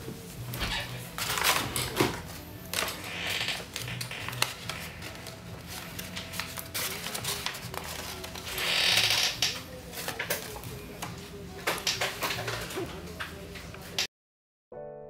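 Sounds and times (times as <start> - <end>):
paper rustling by hand: 0.0 - 8.8, 9.5 - 13.6
soft background music: 0.0 - 14.1.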